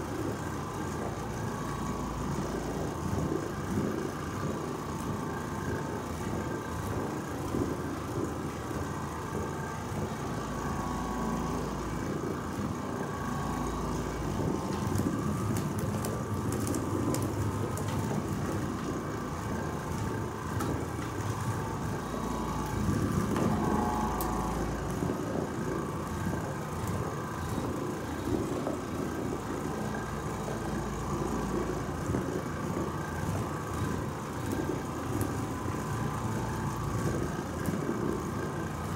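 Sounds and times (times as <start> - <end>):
floor machine scrubbing carpet: 0.0 - 38.9.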